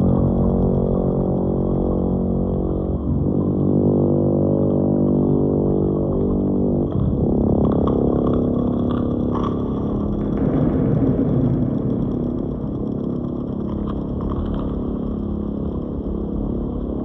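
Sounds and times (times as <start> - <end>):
dark synthesizer drone: 0.0 - 17.0.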